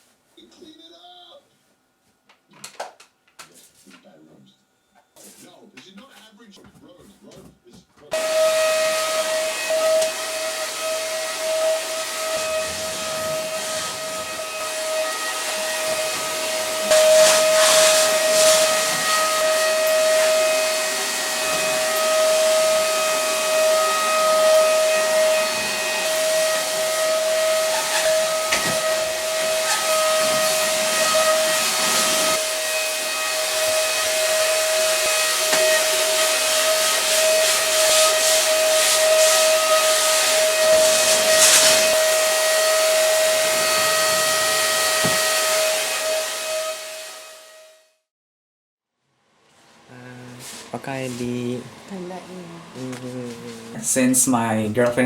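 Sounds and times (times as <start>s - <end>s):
vacuum cleaner running: 8.1s - 47.8s, 49.7s - 55.0s.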